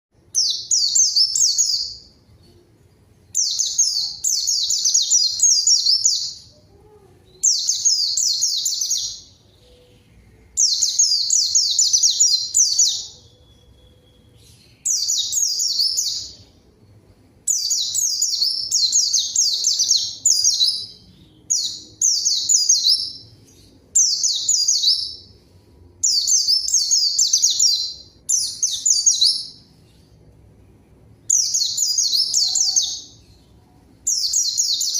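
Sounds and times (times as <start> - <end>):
bird twittering song: 0.2 - 25.4, 26.0 - 30.2, 31.2 - 34.9.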